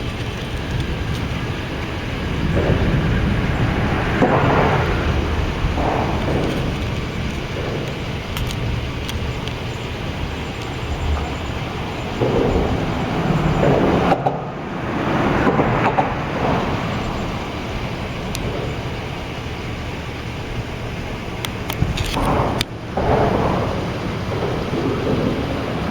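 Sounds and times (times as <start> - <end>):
low rumble: 0.0 - 25.9
wind gusting against microphone: 0.0 - 25.9.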